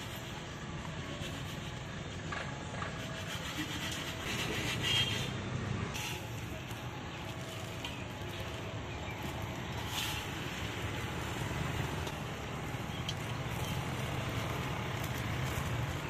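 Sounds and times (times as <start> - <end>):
wooden scraper scraping popcorn in wok: 0.0 - 16.0.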